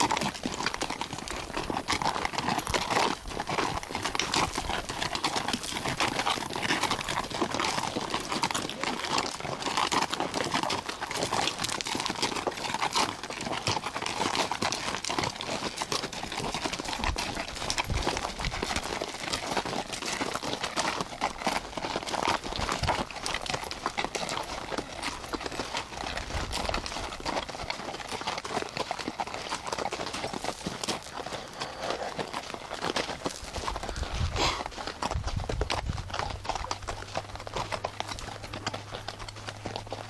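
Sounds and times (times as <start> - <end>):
horse hooves clip-clopping: 0.0 - 40.0.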